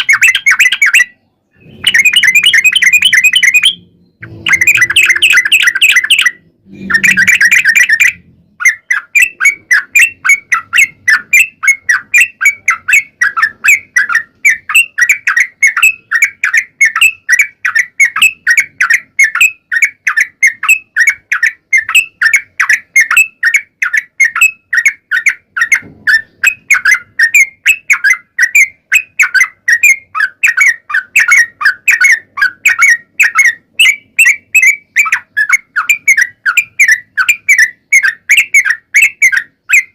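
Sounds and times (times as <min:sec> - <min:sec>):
bird song burst: 0:00.0 - 0:39.9
quick bird chirping: 0:00.0 - 0:39.9.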